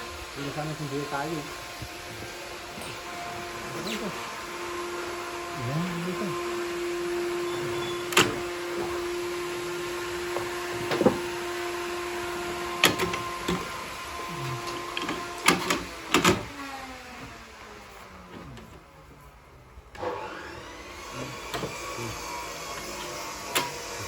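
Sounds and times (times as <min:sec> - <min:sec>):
sawmill machinery humming: 0:00.0 - 0:24.0.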